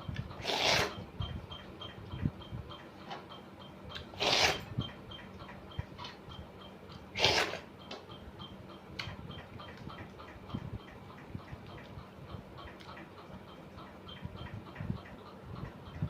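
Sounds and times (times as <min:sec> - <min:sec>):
faint regular ticking: 0:01.2 - 0:04.1, 0:04.8 - 0:07.1, 0:07.7 - 0:16.0.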